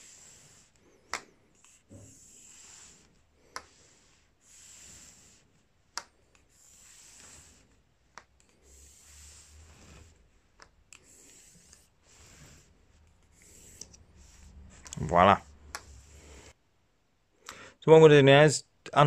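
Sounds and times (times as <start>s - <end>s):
pencil scratching along a pipe: 0.0s - 16.6s.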